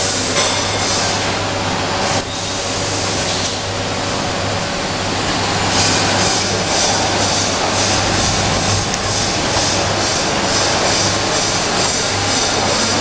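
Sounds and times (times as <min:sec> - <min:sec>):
constant low hum: 0:00.0 - 0:13.0
packing machine running: 0:00.0 - 0:13.0.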